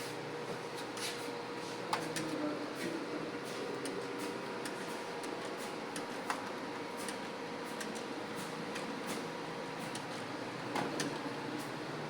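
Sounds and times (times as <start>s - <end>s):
room equipment hum: 0.0s - 12.0s.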